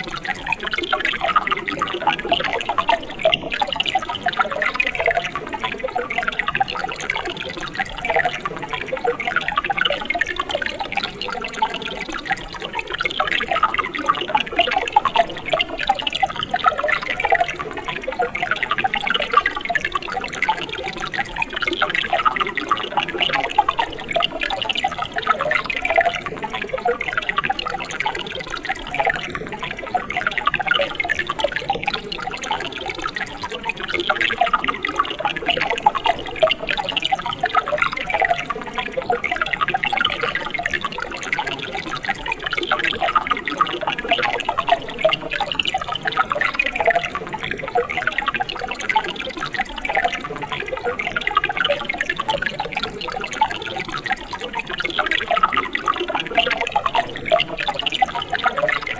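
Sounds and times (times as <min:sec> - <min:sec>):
stream burbling over rocks: 0:00.0 - 0:58.9.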